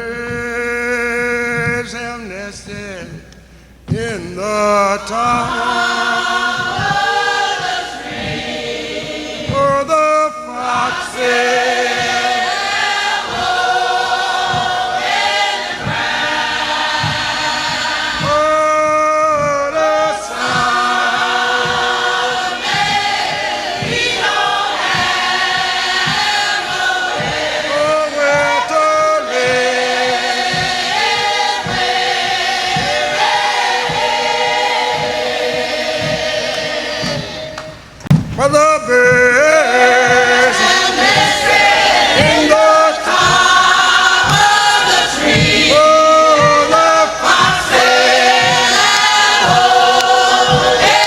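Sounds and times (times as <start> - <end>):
choir singing gospel song: 0.0 - 51.0
slow steady beat: 0.0 - 51.0.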